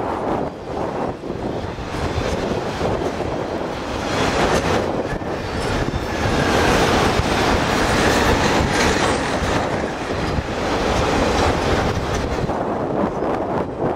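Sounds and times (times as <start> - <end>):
wind rumble on microphone: 0.0 - 13.9
train wheels clacking on rail joints: 1.5 - 13.3.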